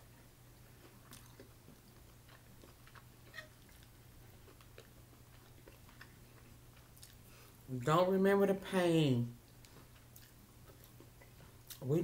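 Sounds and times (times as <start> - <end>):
soft chewing: 0.0 - 7.7, 9.4 - 12.0
steady low hum: 0.0 - 12.0.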